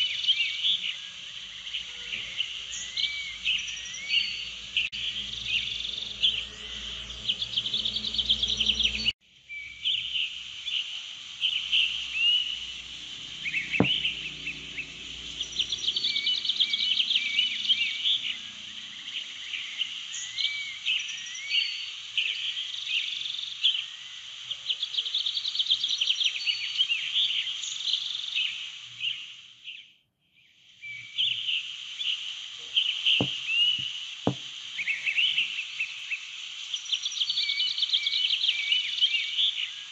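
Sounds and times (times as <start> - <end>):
steady hiss: 0.0 - 29.8, 30.6 - 39.9
small birds chirping and trilling: 0.0 - 39.9.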